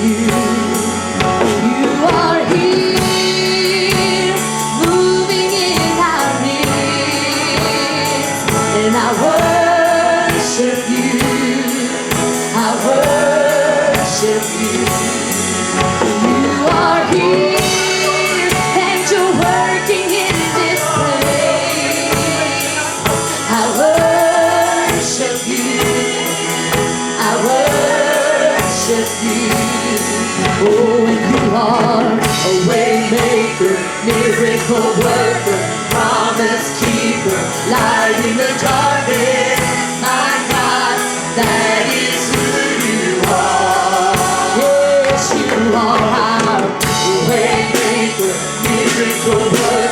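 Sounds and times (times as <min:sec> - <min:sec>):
backing singers: 0:00.0 - 0:49.9
band playing: 0:00.0 - 0:49.9
lead singer: 0:00.0 - 0:49.9.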